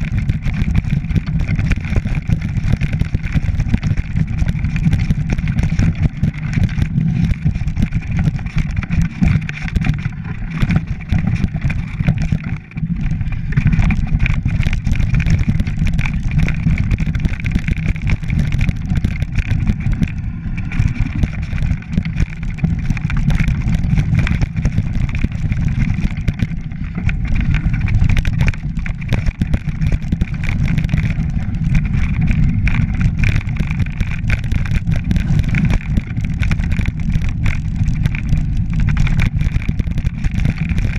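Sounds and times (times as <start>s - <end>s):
mountain bike rattling over rocks: 0.0s - 40.9s.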